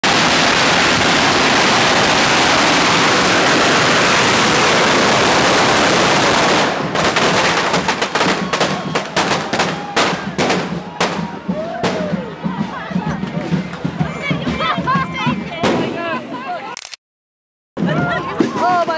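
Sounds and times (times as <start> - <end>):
firecrackers banging: 0.0 - 16.1.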